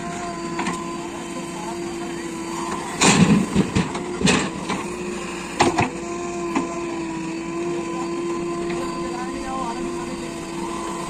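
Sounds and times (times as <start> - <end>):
diesel engine whining: 0.0 - 11.0.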